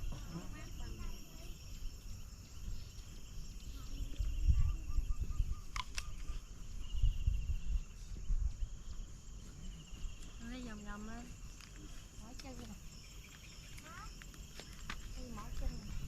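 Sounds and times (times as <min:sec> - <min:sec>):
birds chirping: 0:00.0 - 0:16.0
insects trilling: 0:00.0 - 0:16.0.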